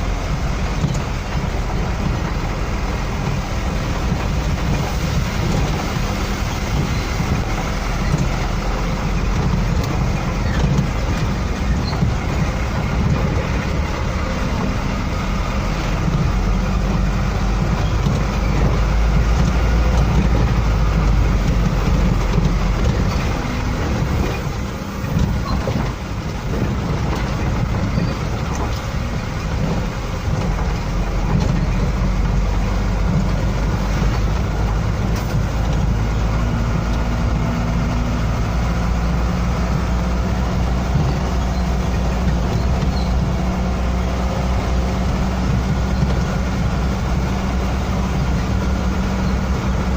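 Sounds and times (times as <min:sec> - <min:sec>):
heavy truck engine rumbling: 0:00.0 - 0:49.9.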